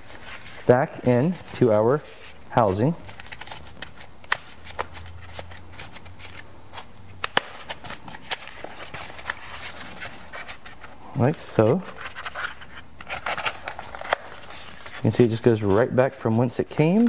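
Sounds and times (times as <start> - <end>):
rustling and scratching of plastic: 0.0 - 6.9, 7.5 - 17.0.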